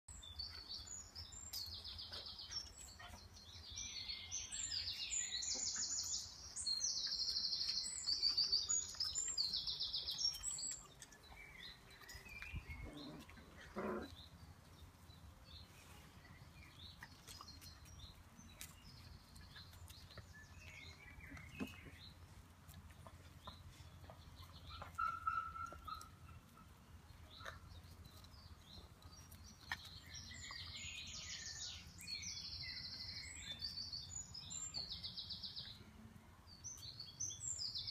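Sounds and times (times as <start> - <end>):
birds singing with trills: 0.1 - 22.4, 23.0 - 37.9.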